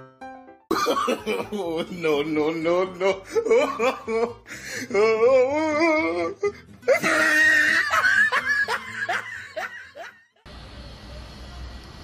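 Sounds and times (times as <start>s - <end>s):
person laughing hard: 0.7s - 10.4s.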